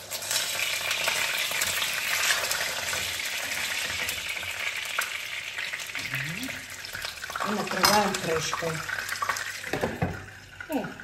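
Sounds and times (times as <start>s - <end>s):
dough frying in oil sizzling: 0.0s - 11.0s
hot oil popping: 0.0s - 11.0s.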